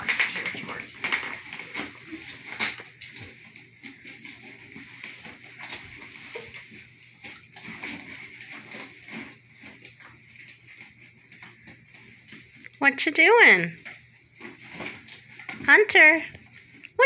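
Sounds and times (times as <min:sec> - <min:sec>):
cardboard rustling and scraping: 0:00.0 - 0:12.6, 0:13.7 - 0:16.8.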